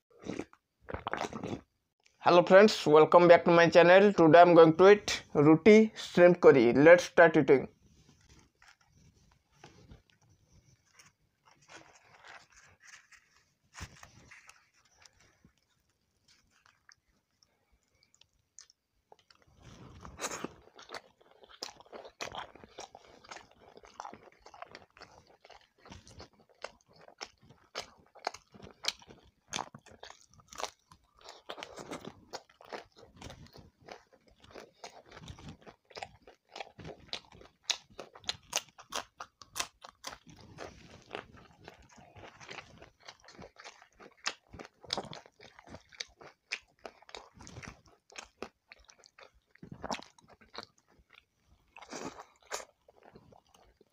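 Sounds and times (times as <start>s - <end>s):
chewing and biting food: 0.1s - 2.2s, 8.2s - 53.9s.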